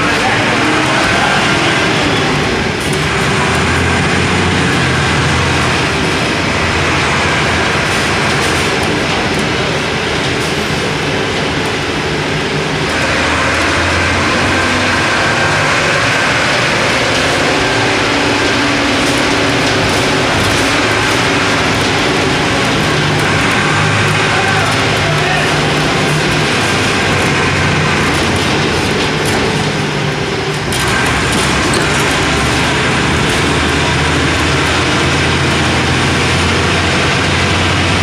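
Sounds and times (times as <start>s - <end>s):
bus diesel engine running: 0.0s - 38.0s.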